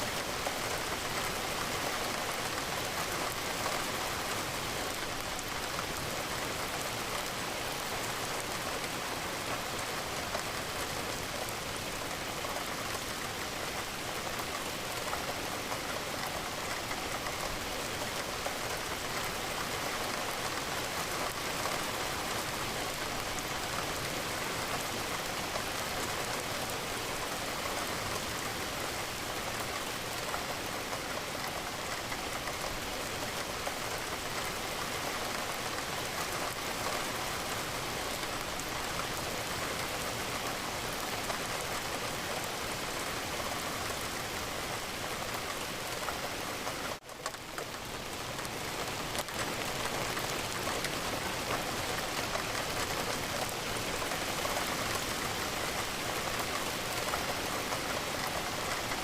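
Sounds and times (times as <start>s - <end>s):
steady rain: 0.0s - 59.0s
raindrops pattering on a window: 0.1s - 59.0s.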